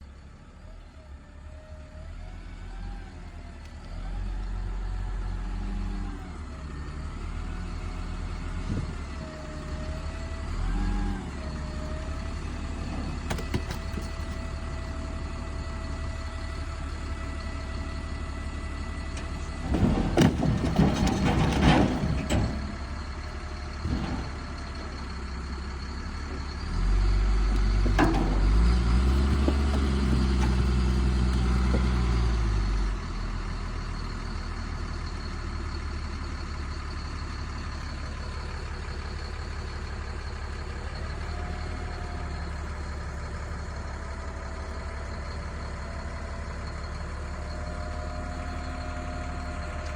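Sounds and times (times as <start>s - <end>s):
dump truck engine running: 0.0s - 49.9s.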